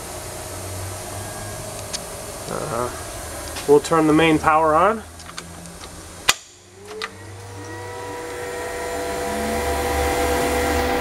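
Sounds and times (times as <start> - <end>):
cooling fans whining and humming: 0.0 - 11.0.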